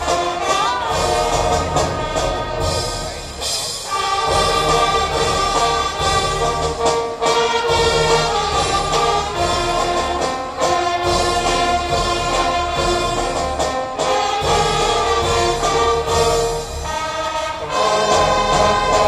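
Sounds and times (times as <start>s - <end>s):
brass band playing held chords: 0.0s - 19.0s.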